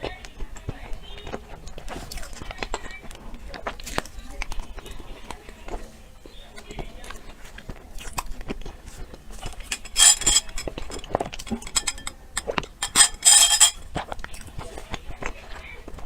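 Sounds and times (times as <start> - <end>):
wet mouth clicks and chewing: 0.0 - 10.0, 10.6 - 12.9, 13.8 - 16.0.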